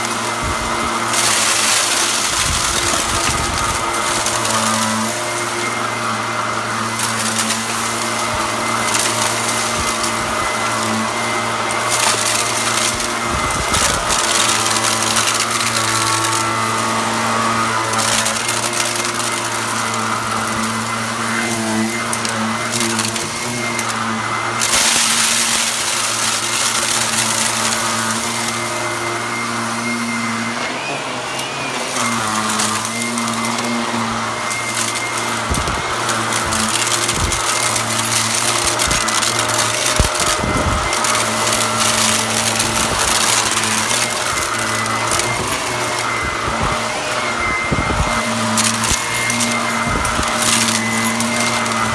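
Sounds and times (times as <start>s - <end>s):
debris rattling through nozzle: 0.0s - 51.9s
vacuum cleaner motor hum: 0.0s - 51.9s.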